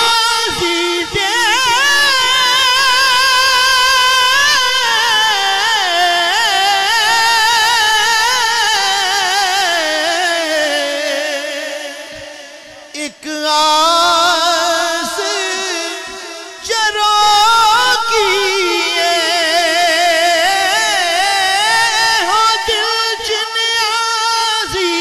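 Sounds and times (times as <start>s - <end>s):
man singing long held notes: 0.0s - 25.0s.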